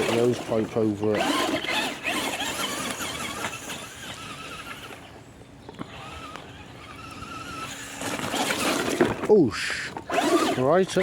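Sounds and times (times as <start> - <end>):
toy truck electric motor whining: 0.0 - 5.1, 5.8 - 11.0.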